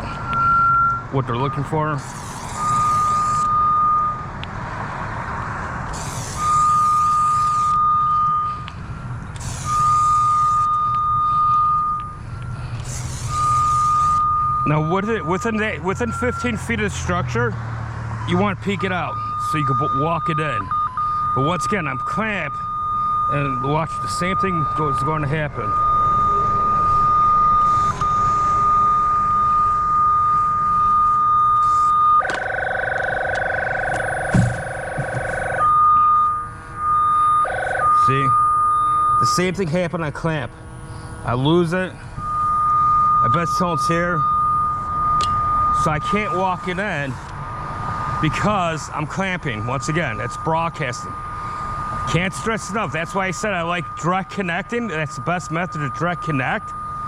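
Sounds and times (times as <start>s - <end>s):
high steady beep: 0.0s - 4.3s, 5.9s - 17.5s, 18.1s - 57.0s
high-pitched receiver tone: 0.3s - 4.2s, 6.0s - 17.2s, 18.2s - 40.4s, 41.2s - 57.0s
constant low rumble: 5.5s - 17.6s, 18.2s - 57.0s.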